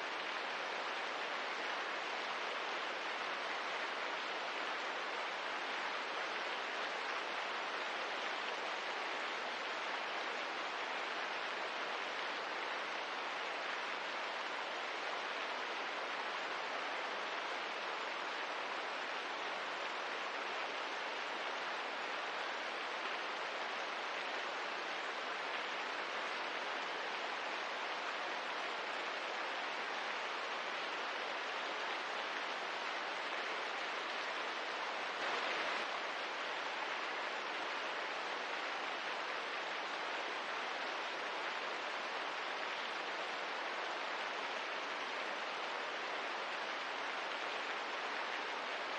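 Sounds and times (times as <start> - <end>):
gentle rain: 0.0 - 48.9.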